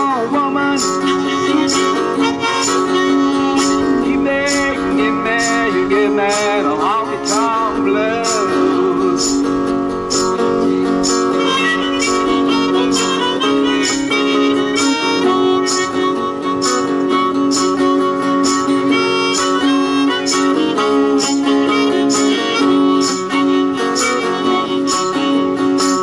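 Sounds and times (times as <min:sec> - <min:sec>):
acoustic guitar strumming: 0:00.0 - 0:26.0
harmonica melody: 0:00.0 - 0:26.0.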